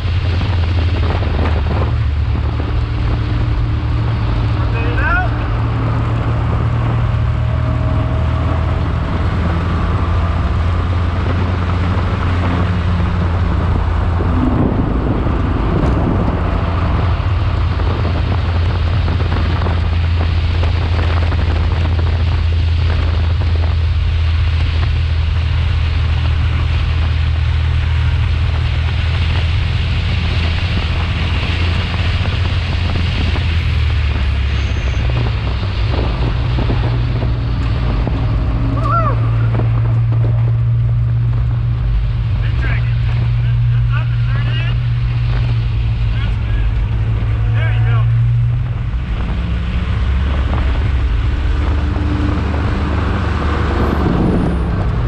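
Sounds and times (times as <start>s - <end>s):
race car engine running hard: 0.0s - 55.0s
wind noise on microphone: 0.0s - 55.0s.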